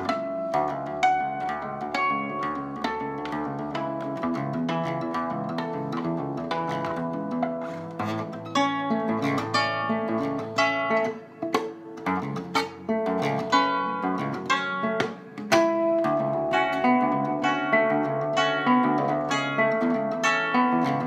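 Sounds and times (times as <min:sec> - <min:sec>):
classical guitar fingerstyle: 0:00.0 - 0:21.0.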